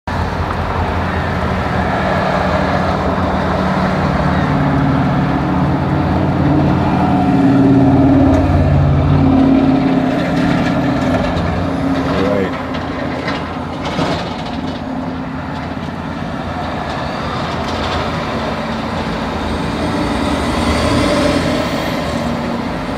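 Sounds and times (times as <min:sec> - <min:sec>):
strong wind rumbling: 0:00.1 - 0:22.9.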